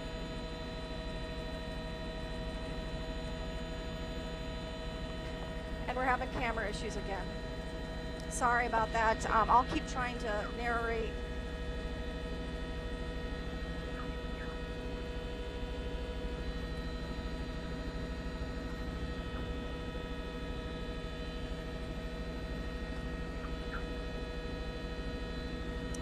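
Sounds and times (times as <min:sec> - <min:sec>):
helicopter cabin hum and throb: 0:00.0 - 0:26.0.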